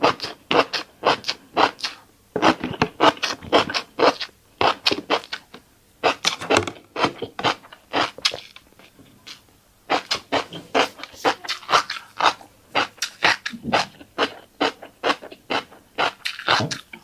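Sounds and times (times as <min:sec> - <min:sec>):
crunchy chewing of seeds: 0:00.0 - 0:17.0.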